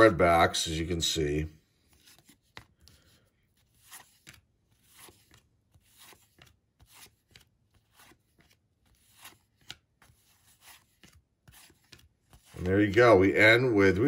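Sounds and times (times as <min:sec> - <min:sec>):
cardboard cards swishing: 0:01.8 - 0:13.4.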